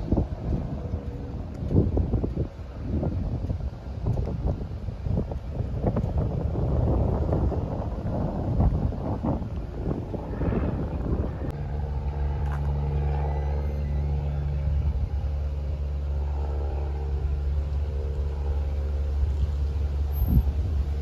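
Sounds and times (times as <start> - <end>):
engine idling hum: 0.0 - 21.0
wind buffeting microphone: 0.0 - 21.0.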